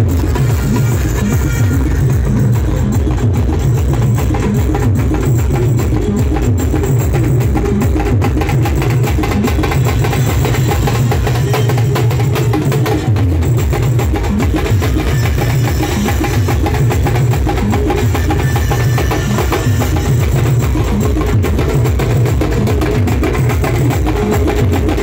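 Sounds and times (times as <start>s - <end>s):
drums beaten in fast rhythm: 0.0s - 25.0s.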